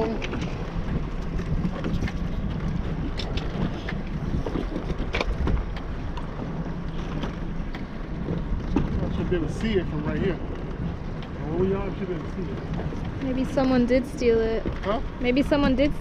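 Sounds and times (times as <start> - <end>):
choppy water: 0.0 - 16.0
small boat motor running: 0.0 - 16.0
wind buffeting microphone: 0.0 - 16.0.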